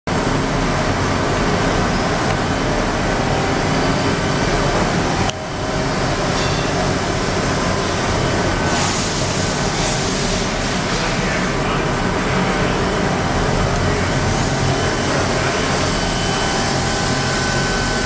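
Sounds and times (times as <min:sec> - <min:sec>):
machining center running: 0:00.1 - 0:18.0.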